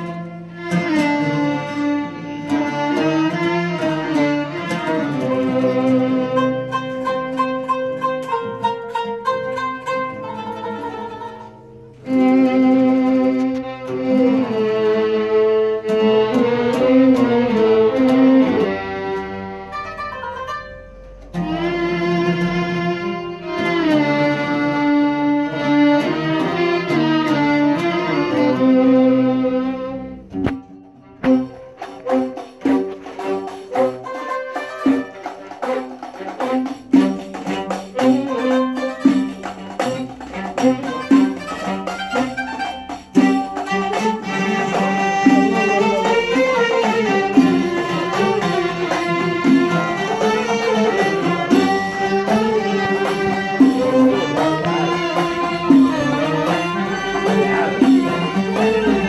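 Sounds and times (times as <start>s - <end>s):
plucked oud: 0.0s - 59.0s
qanun: 0.0s - 59.0s
violin held notes: 0.0s - 59.0s.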